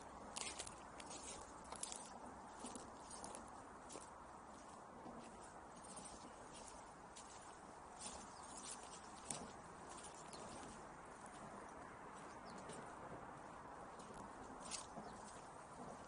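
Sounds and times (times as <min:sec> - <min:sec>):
footsteps crunching on dry grass: 0:00.0 - 0:16.0.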